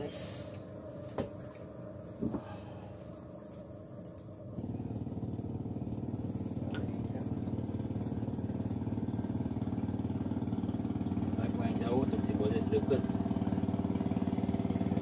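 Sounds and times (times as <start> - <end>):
small engine running: 1.4 - 15.0.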